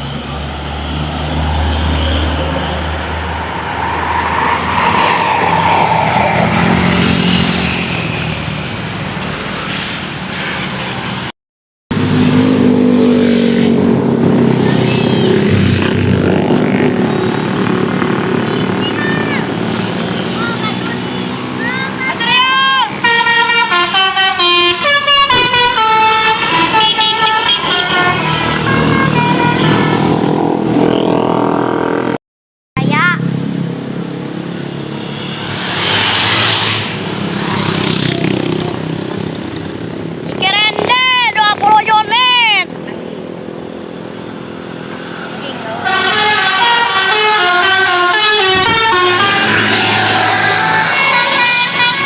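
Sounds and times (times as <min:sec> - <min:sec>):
diesel engine passing: 0:00.0 - 0:11.3, 0:11.9 - 0:32.2, 0:32.9 - 0:42.0, 0:42.6 - 0:52.0.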